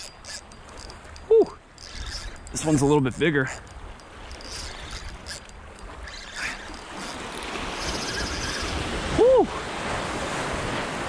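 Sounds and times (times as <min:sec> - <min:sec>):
small waves splashing: 0:00.0 - 0:11.0.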